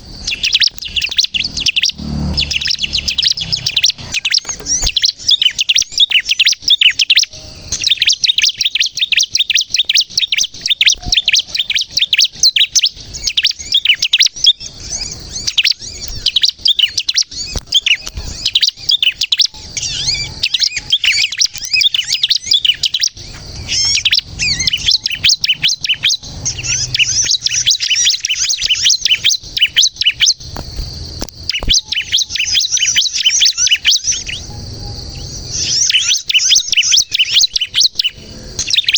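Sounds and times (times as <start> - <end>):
bird song rapid high chirping: 0.0 - 38.9.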